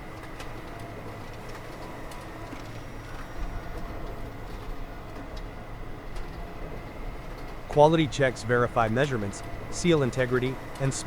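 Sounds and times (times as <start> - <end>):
factory machinery rumble and hiss: 0.0 - 11.0.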